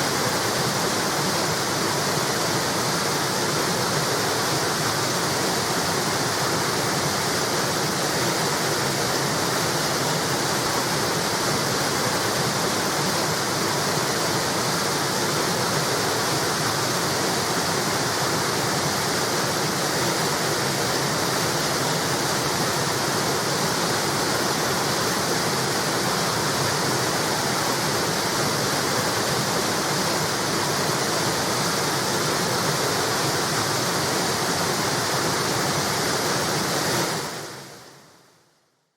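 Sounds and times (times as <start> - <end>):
river water rushing over wall: 0.0 - 37.7.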